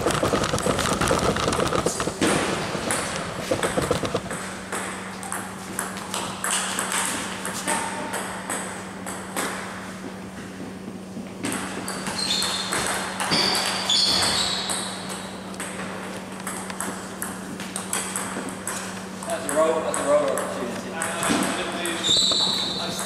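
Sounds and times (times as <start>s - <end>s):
table tennis balls clicking: 0.0s - 9.8s, 11.4s - 23.0s
steady low hum: 0.0s - 23.0s.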